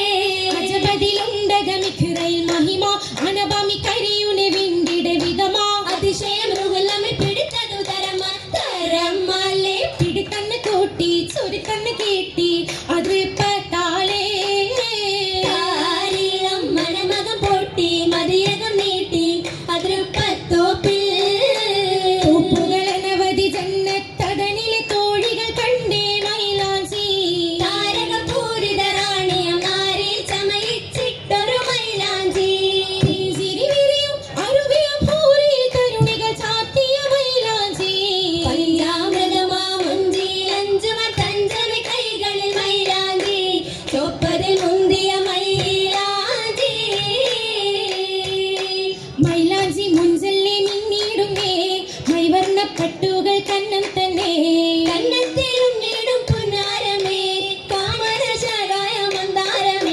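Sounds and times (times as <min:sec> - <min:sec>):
rhythmic hand claps: 0:00.0 - 0:59.9
women singing: 0:00.0 - 0:59.9.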